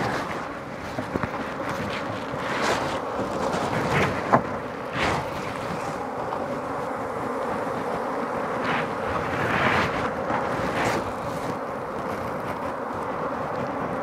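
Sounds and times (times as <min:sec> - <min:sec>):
bees buzzing: 0:00.0 - 0:14.0
wind noise on microphone: 0:00.0 - 0:14.0.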